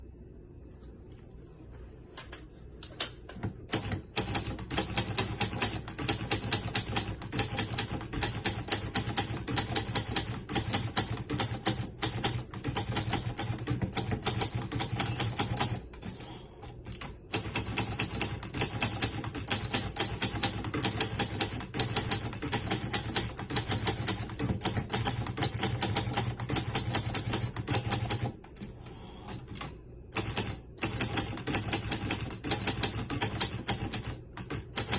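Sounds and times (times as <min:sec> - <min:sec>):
manual typewriter typing: 0:03.4 - 0:34.9.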